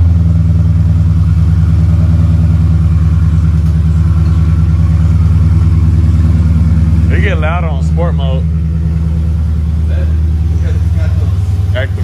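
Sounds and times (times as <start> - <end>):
car engine idling loud: 0.0 - 12.0.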